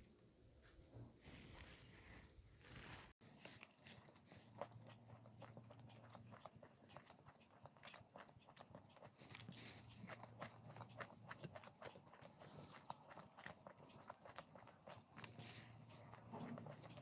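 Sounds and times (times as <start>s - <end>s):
person chewing crisp food: 3.2s - 17.0s.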